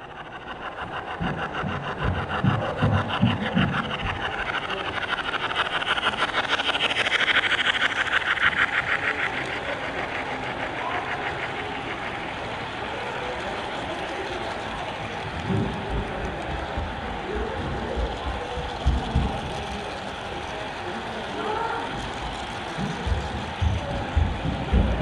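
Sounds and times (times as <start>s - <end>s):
model train wheels clicking: 0.0s - 25.0s.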